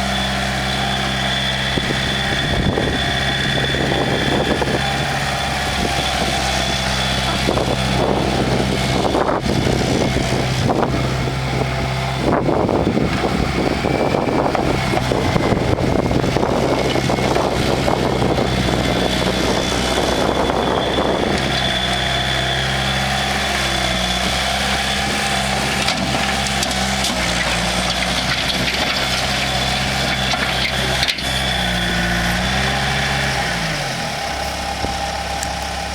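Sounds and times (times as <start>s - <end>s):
diesel engine running: 0.0s - 35.9s
rough loud mechanical noise: 0.0s - 35.9s.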